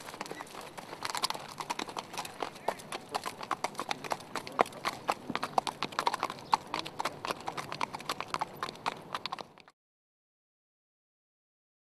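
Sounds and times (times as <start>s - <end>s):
horse hooves on pavement: 0.0s - 9.7s.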